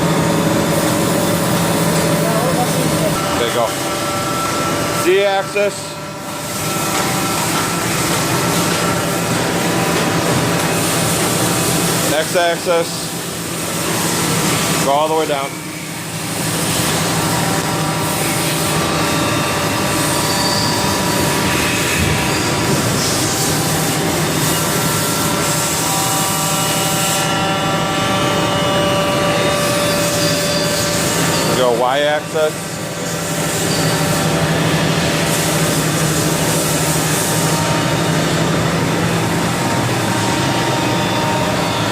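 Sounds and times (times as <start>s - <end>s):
machine fans: 0.0s - 41.9s.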